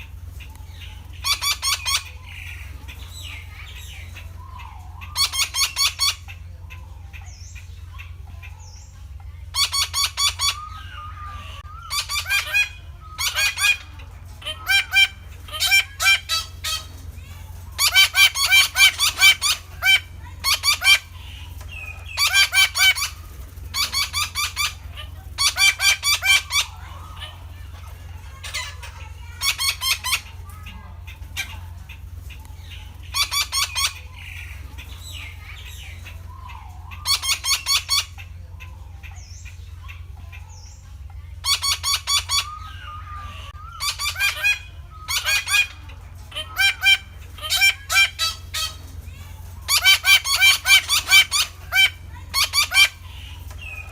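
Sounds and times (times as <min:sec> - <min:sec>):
parakeets calling harshly: 0:00.0 - 0:53.9
steady low hum: 0:00.0 - 0:53.9.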